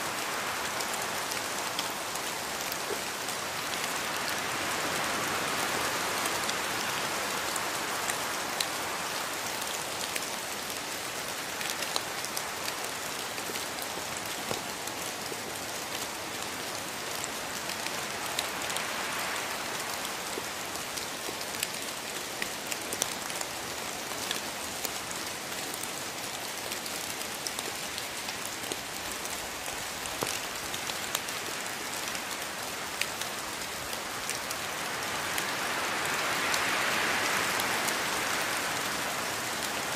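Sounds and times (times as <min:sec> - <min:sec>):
raindrops pattering close by: 0:00.0 - 0:39.9
steady rain hiss: 0:00.0 - 0:39.9.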